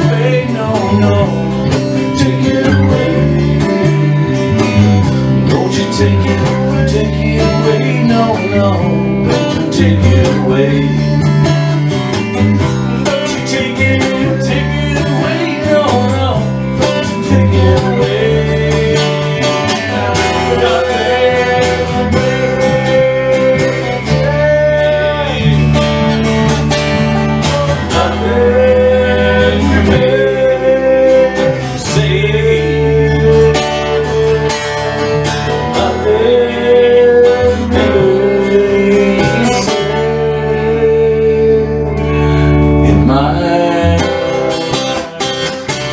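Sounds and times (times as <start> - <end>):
bass and drums: 0.0 - 45.9
strummed acoustic guitar: 0.0 - 45.9.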